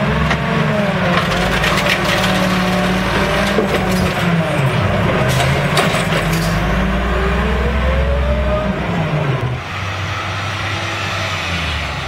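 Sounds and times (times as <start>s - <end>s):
garbage truck engine: 0.0s - 12.0s.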